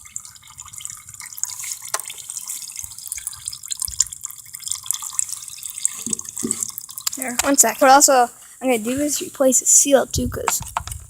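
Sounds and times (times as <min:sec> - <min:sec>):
engine oil trickling and dripping: 0:00.0 - 0:11.0.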